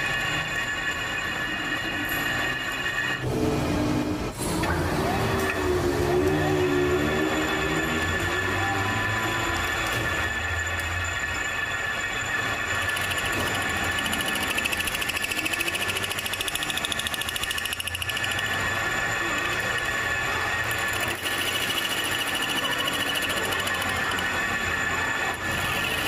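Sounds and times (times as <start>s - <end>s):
high squealing whine: 0.0s - 26.0s
metal lathe machining: 0.0s - 26.0s.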